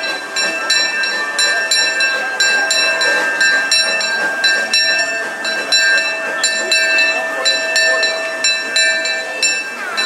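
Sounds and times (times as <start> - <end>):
steam locomotive bell ringing: 0.0 - 10.0.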